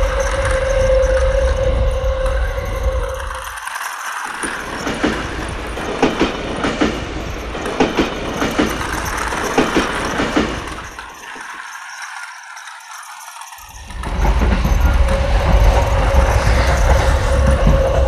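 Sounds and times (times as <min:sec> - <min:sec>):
toy train whirring: 0:00.0 - 0:18.0
sharp track clicks: 0:02.3 - 0:18.0.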